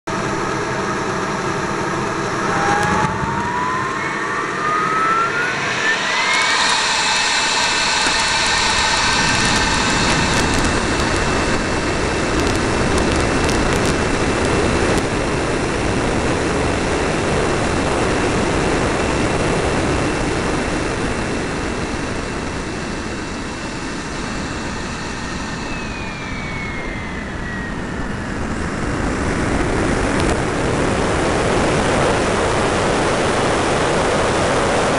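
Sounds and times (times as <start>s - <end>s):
model jet engine whine: 0.1s - 34.9s
rush of air: 0.2s - 34.9s.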